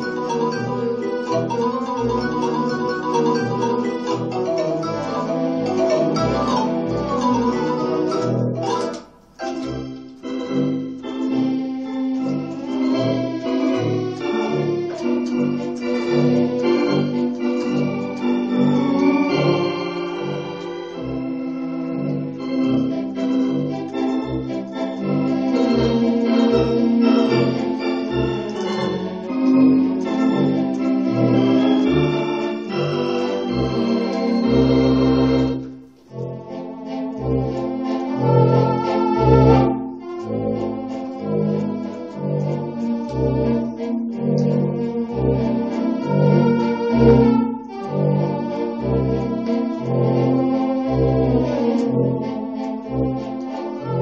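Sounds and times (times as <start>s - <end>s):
electronic organ chords: 0.0s - 54.0s.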